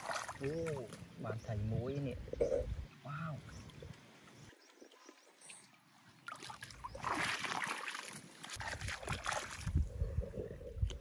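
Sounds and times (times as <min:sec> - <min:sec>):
water splashing and sloshing: 0:00.0 - 0:01.3, 0:02.8 - 0:11.0.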